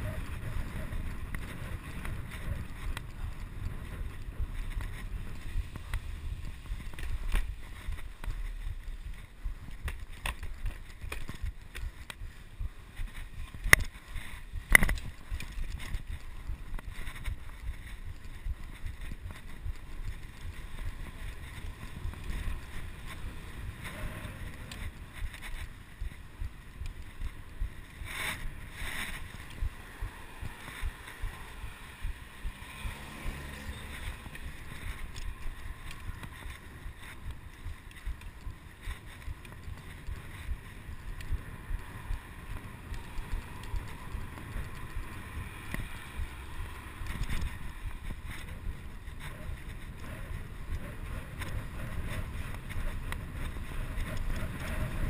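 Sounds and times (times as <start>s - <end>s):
bicycle rumble and rattle: 0.0s - 55.0s
wind buffeting microphone: 0.0s - 55.0s.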